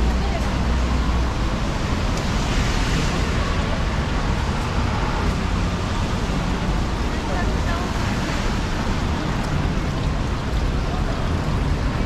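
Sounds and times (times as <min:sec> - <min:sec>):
rain on a wet street: 0:00.0 - 0:12.0
traffic noise: 0:00.0 - 0:12.0.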